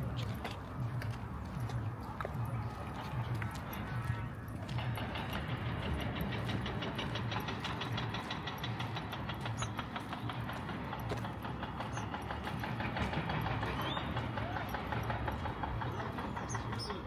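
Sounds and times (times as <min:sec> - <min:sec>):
engine low pulsing rumble: 0:00.0 - 0:17.0.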